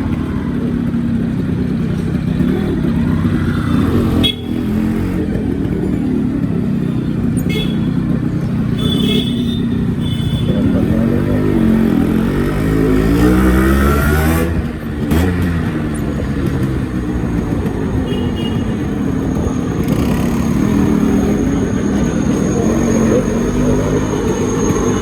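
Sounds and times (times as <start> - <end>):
two-stroke motorcycle engine revving: 0.0 - 25.0.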